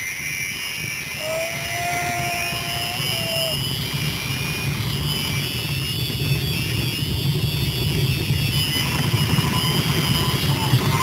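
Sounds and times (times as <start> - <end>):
long steady tone: 0.0 - 11.0
zipline pulleys whirring on cable: 0.0 - 11.0
wind rush: 0.2 - 11.0.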